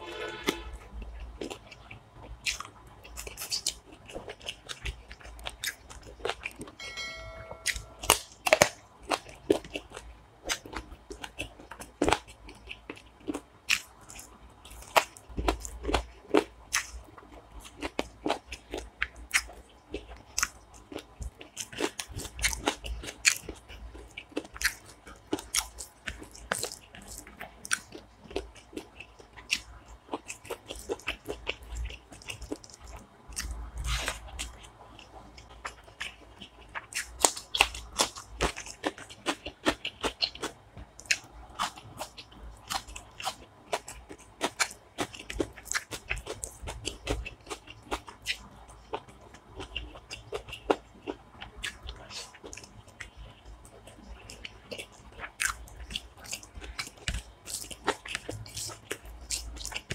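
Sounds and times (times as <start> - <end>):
person chewing food: 0.5 - 6.8, 7.6 - 59.9.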